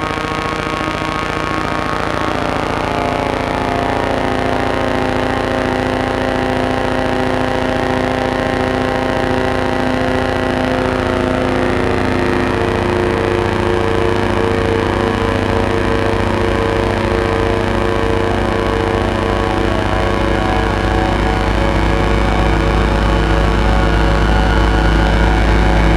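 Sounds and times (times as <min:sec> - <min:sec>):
dark dense drone: 0:00.0 - 0:25.9.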